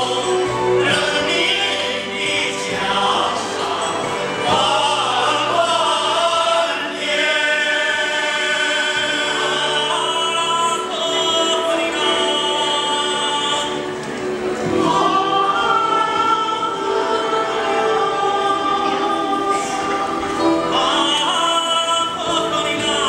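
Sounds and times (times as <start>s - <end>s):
male voices singing in harmony: 0.0s - 23.0s.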